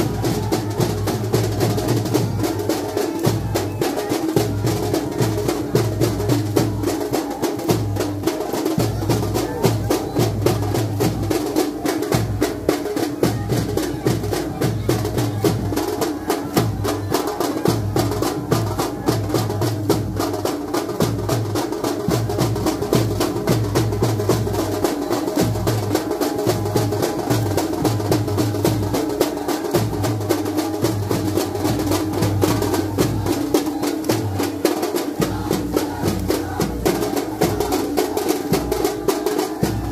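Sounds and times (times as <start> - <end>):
fast group drumming: 0.0 - 39.9.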